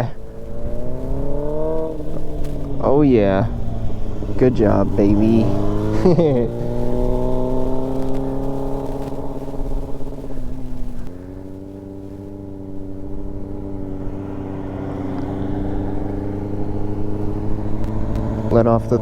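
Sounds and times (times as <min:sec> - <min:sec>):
motorcycle engine revving high: 0:00.0 - 0:19.0.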